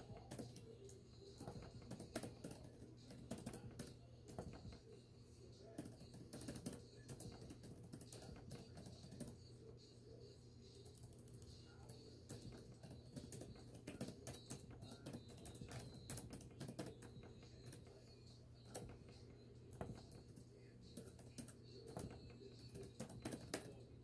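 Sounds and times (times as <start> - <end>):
laptop keyboard typing: 0.0 - 5.0, 5.6 - 9.5, 10.7 - 24.0.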